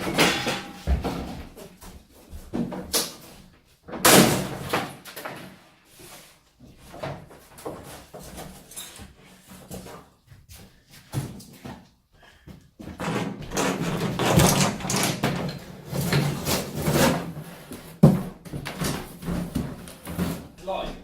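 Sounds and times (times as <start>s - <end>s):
objects being handled and shifted: 0.0s - 21.0s.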